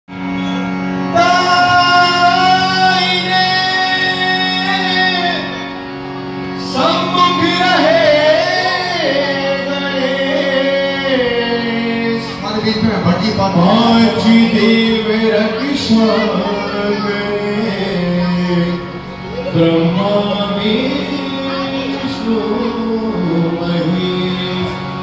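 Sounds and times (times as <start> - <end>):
harmonium reed drone: 0.1 - 25.0
man singing: 1.0 - 5.7, 6.5 - 25.0.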